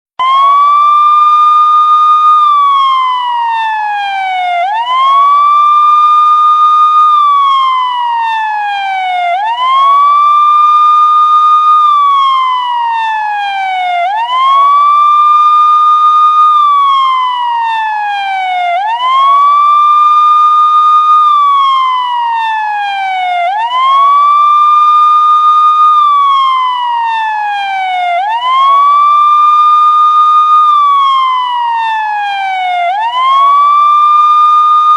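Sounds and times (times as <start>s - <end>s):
police siren wailing: 0.2s - 34.9s.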